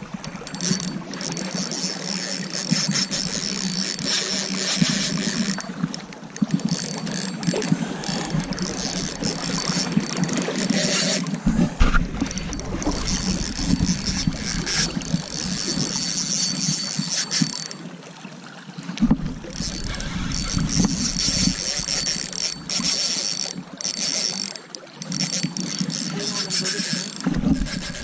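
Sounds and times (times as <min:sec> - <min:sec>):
fishing reel clicking: 0:00.1 - 0:17.9, 0:19.4 - 0:28.0.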